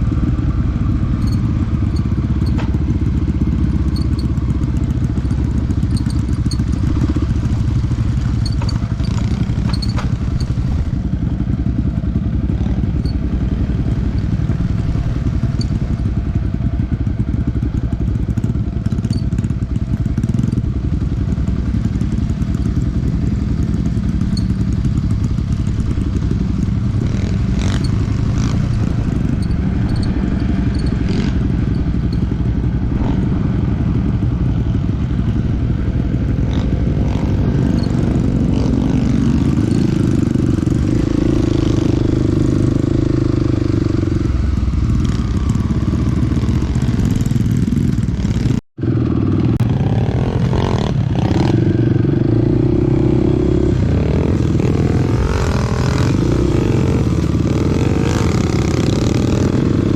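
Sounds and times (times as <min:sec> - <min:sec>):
dirt bike engine: 0:00.0 - 0:59.9.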